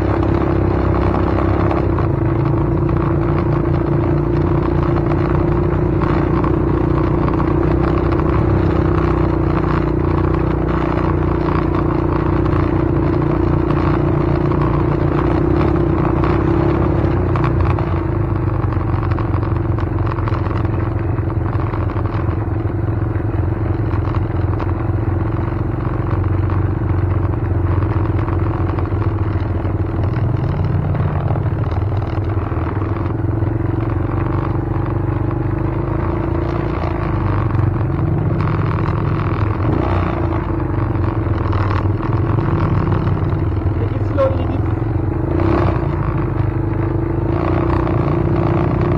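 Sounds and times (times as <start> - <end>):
motor vehicle engine rumble: 0.0 - 48.9.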